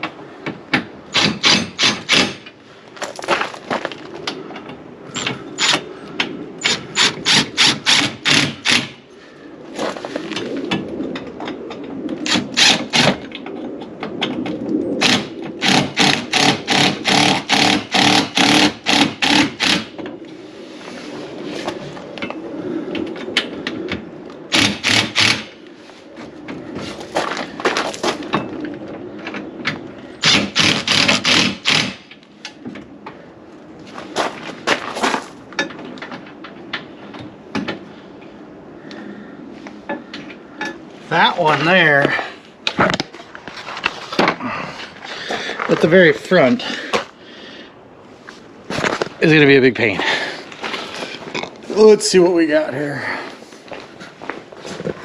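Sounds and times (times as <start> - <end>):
low hum: 0.0 - 49.2.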